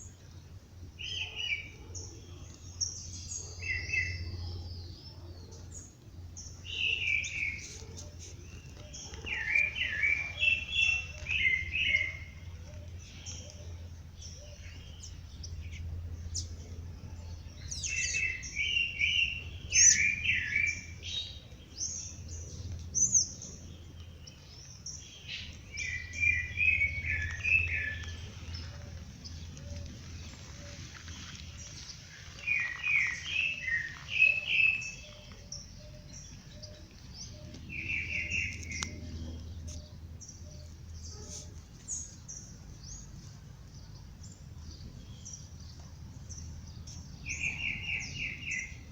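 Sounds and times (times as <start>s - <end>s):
bird warbling song: 0.0s - 48.9s
low steady hum: 0.0s - 48.9s.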